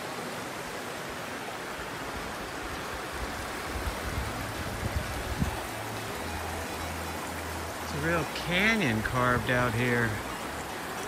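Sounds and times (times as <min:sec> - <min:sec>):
creek rushing over rapids: 0:00.0 - 0:11.0.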